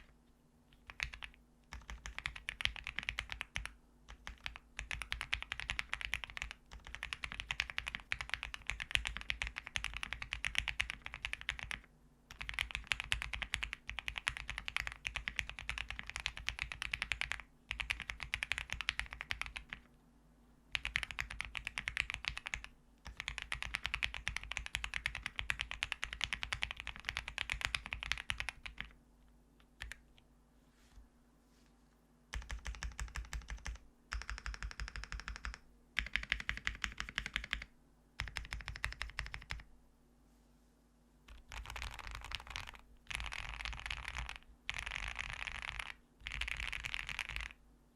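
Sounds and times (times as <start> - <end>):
fast typing on mechanical keyboard: 0.8 - 19.8, 20.7 - 29.0, 29.8 - 30.0, 32.3 - 39.7, 41.3 - 47.6.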